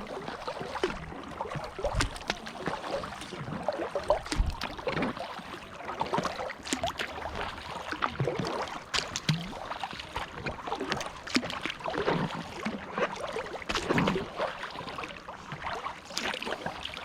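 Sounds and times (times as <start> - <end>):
kayak paddles splashing water: 0.0 - 17.0.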